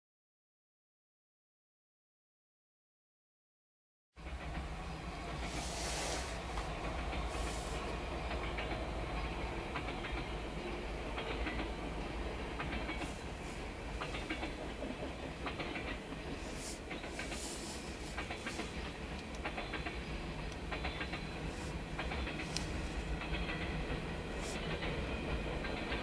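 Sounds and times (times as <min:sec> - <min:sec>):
freight train rumble: 0:04.2 - 0:26.0
wheels clacking over rail joints: 0:04.2 - 0:26.0.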